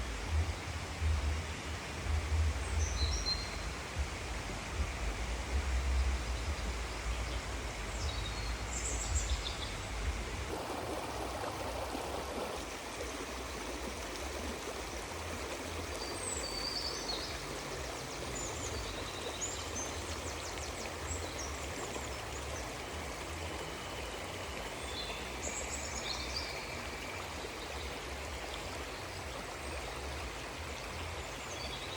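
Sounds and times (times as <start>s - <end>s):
running water: 0.0s - 31.9s.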